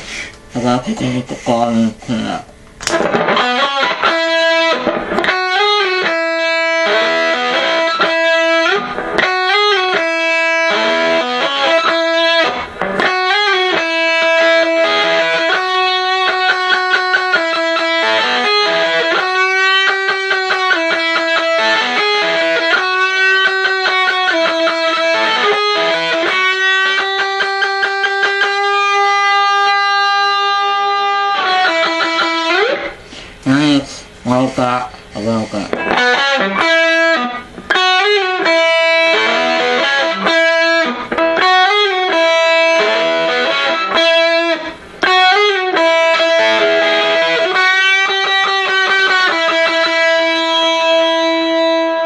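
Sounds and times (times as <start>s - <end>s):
fuzz electric guitar: 2.8s - 33.7s, 34.9s - 52.0s.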